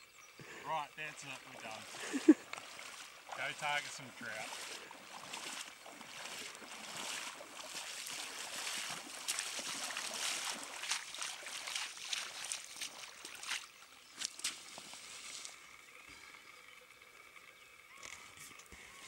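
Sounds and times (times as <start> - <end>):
legs wading through shallow water: 0.2 - 19.0.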